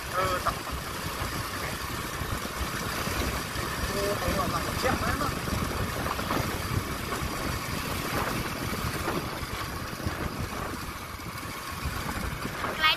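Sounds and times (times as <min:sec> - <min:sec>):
vehicle engine and road noise: 0:00.0 - 0:12.9.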